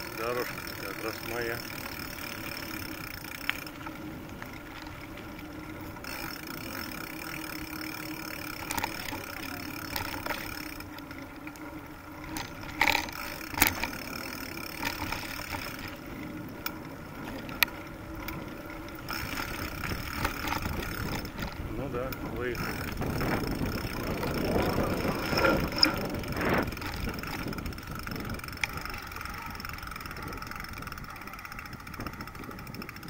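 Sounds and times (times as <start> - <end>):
bicycle rolling on dirt: 0.0 - 33.0
bike rattles and knocks: 0.0 - 33.0.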